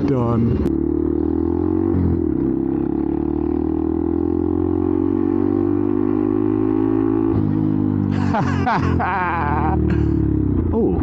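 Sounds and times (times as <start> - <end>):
single-cylinder motorcycle engine running: 0.0 - 11.0.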